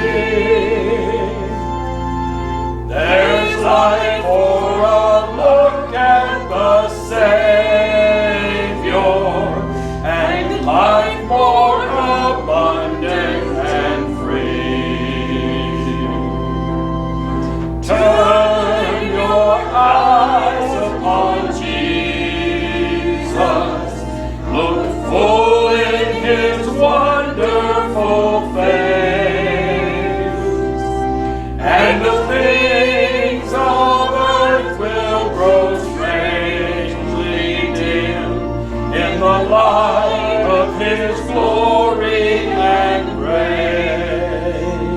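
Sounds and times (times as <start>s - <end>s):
choir singing a hymn: 0.0s - 44.9s
sustained accompaniment: 0.0s - 44.9s.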